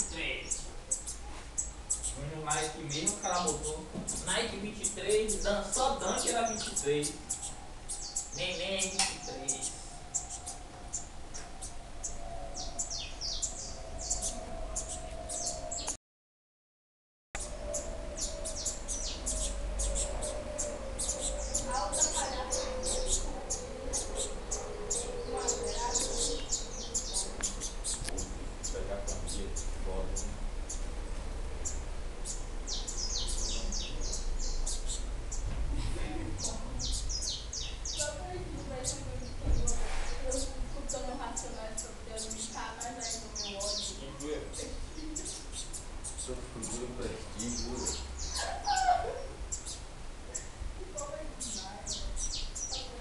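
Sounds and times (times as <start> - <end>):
finches chirping: 0.0 - 16.0, 17.4 - 31.0, 31.6 - 35.5, 36.1 - 53.0.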